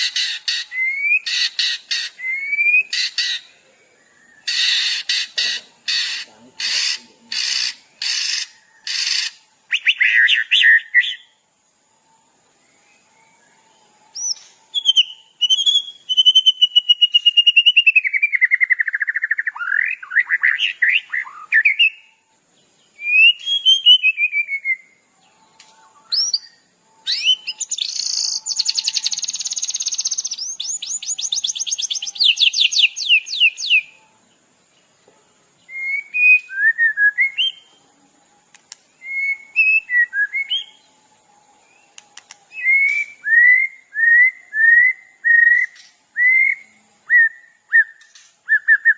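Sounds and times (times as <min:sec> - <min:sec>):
songbird whistled song: 0:00.0 - 0:48.9.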